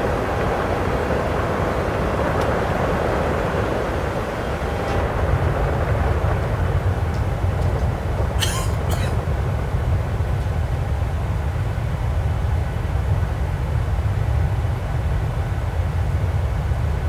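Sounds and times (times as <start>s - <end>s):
jet engine cabin roar: 0.0s - 17.0s.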